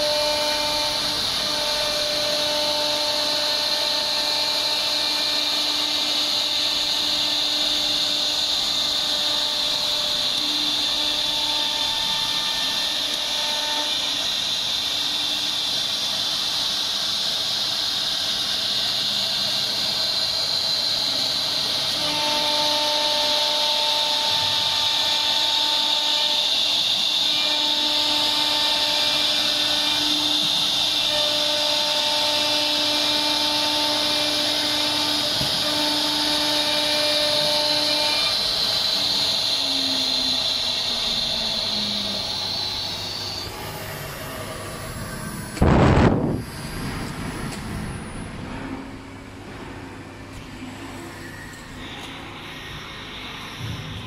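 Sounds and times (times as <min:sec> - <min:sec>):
router spindle whining: 0:00.0 - 0:48.5
lower motor tones: 0:00.0 - 0:54.0.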